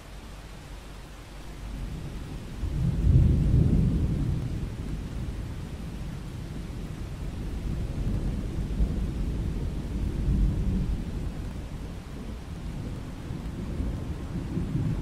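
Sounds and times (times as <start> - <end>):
steady rain: 0.0 - 15.0
thunder rumbling: 1.7 - 15.0.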